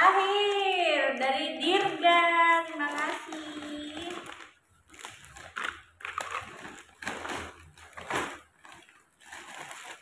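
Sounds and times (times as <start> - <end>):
wrapping paper rustling and tearing: 1.6 - 10.0.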